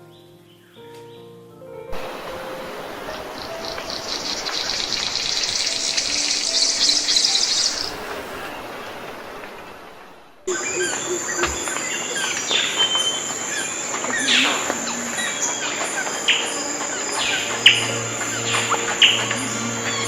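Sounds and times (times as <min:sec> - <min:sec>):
birds calling: 0:02.0 - 0:20.0
high insect drone: 0:02.0 - 0:20.0.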